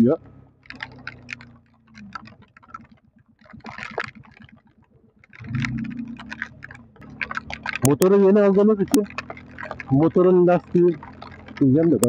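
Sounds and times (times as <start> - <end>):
motorcycle engine running: 0.0 - 12.0
raindrops ticking on microphone: 0.0 - 12.0.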